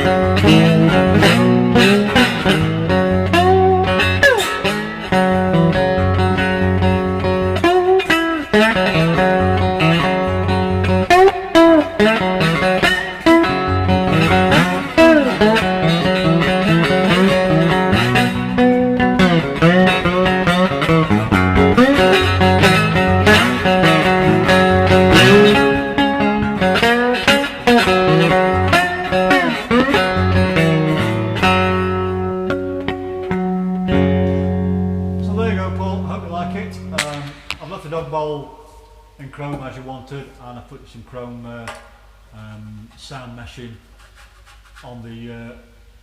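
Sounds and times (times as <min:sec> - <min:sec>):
fingerpicked resonator guitar: 0:00.0 - 0:37.6.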